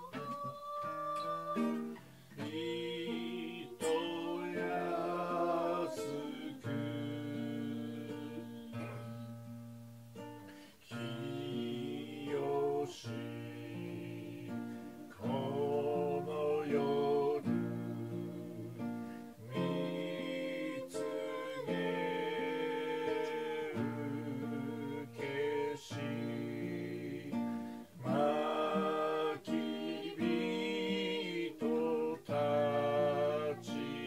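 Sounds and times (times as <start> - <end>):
man and woman singing a hymn: 0.0 - 9.4, 10.5 - 34.0.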